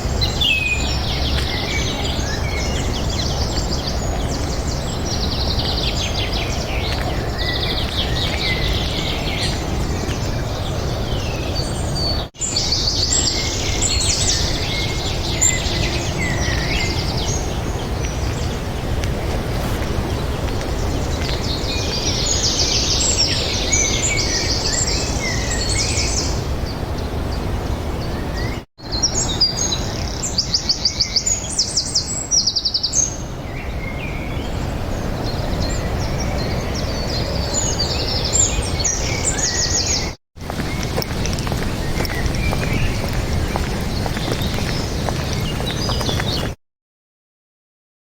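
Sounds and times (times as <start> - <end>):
songbirds chirping and trilling: 0.0 - 46.6.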